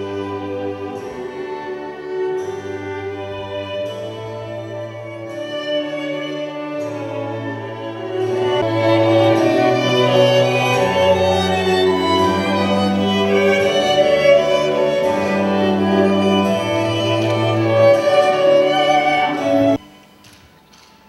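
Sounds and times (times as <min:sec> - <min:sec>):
slow string music: 0:00.0 - 0:21.0.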